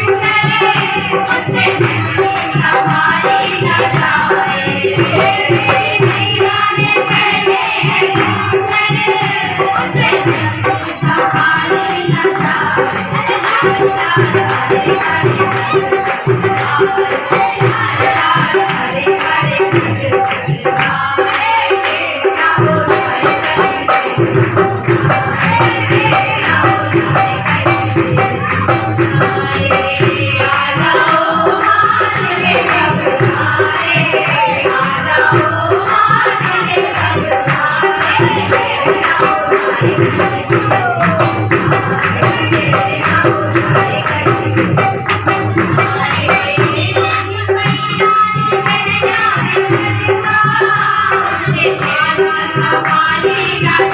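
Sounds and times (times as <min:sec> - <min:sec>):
jingling hand percussion: 0:00.0 - 0:53.9
person singing devotional song: 0:00.0 - 0:53.9.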